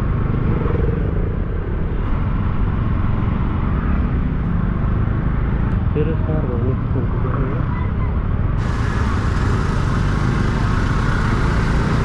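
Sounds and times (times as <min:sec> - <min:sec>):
road and vehicle noise: 0:00.0 - 0:12.0.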